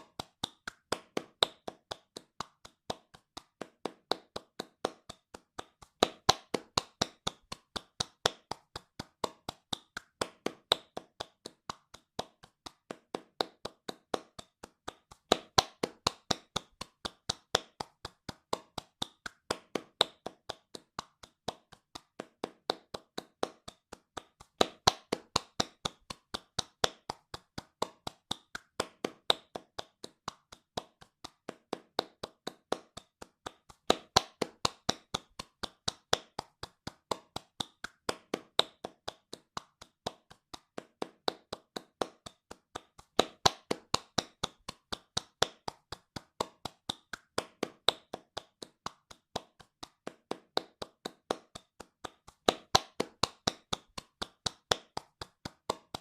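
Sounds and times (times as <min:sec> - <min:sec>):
hands clapping fast: 0:00.0 - 0:56.0.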